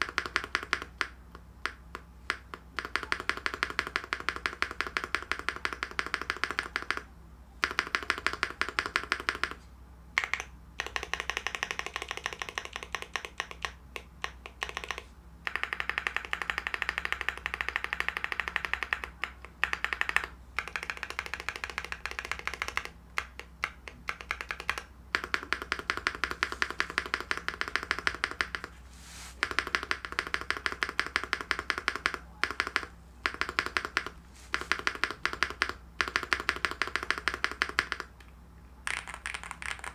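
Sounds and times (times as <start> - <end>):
mechanical keyboard typing: 0.0 - 9.6, 10.2 - 28.8, 29.4 - 38.2, 38.8 - 39.9.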